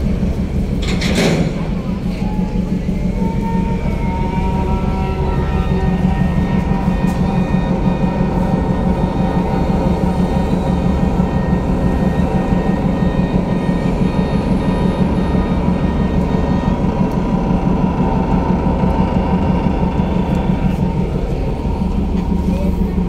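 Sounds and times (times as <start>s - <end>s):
ship machinery humming: 0.0s - 23.0s.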